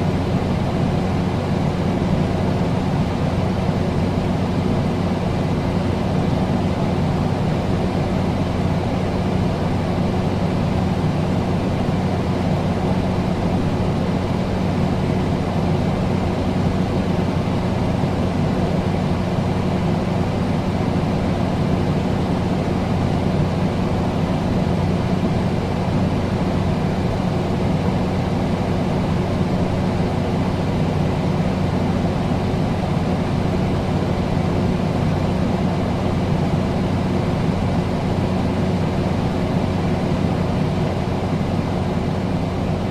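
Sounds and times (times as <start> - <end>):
air conditioner running: 0.0 - 42.9.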